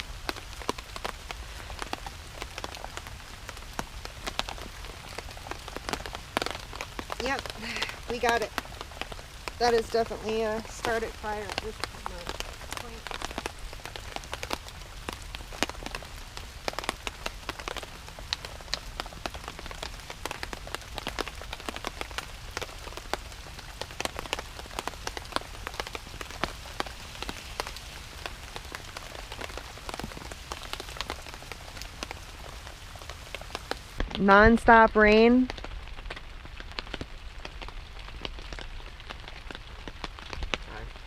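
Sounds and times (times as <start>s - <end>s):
raindrops pattering: 0.0s - 41.0s
steady rain: 0.0s - 41.0s.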